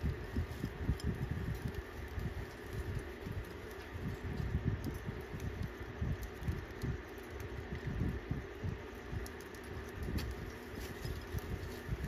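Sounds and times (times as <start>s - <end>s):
birds pecking seed clicks: 0.1s - 12.0s.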